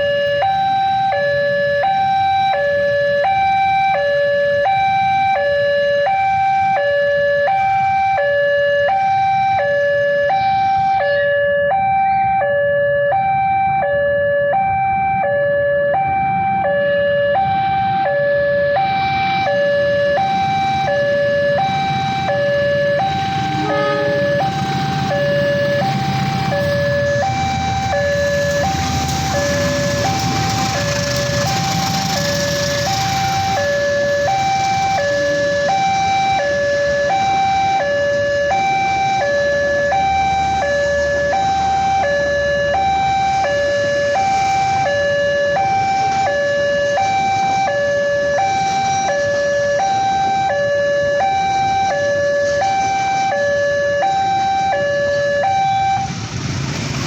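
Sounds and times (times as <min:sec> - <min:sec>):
level crossing two-tone alarm: 0:00.0 - 0:56.2.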